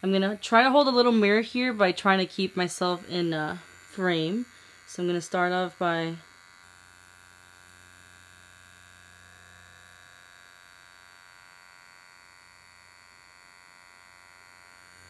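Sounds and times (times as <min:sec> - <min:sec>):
faint electric buzz: 0:00.0 - 0:15.0.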